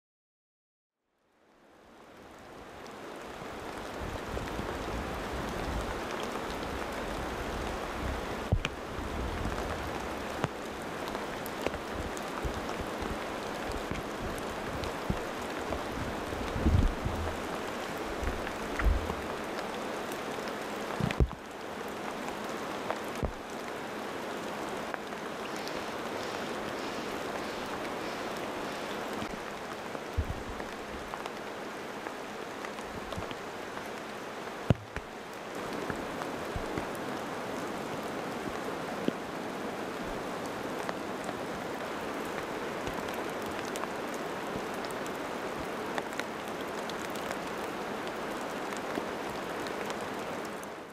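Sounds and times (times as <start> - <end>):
rain dripping through branches: 1.2 - 50.9.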